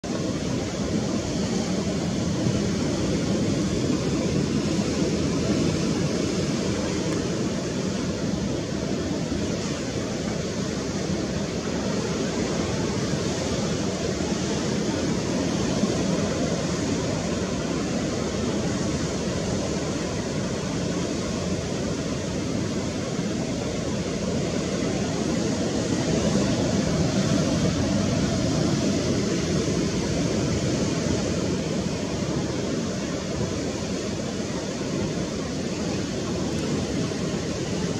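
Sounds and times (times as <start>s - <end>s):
sea surf: 0.0s - 37.9s
wind: 0.0s - 37.9s.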